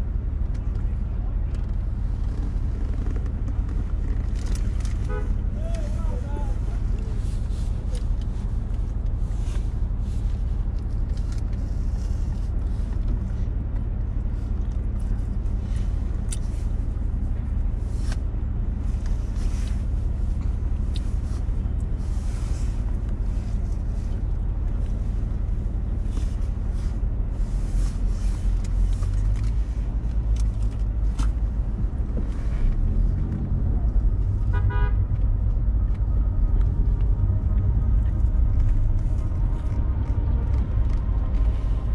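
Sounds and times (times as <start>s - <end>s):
car engine and tyre rumble: 0.0s - 41.9s
vehicles passing: 0.0s - 41.9s.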